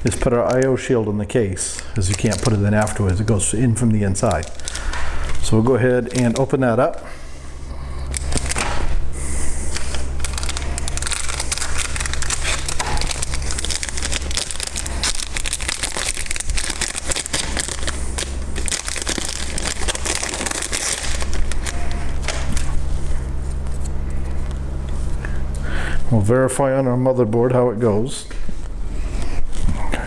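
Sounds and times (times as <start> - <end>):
packaging crinkling: 0.0 - 7.0, 7.7 - 25.2
low electrical hum: 0.0 - 30.0.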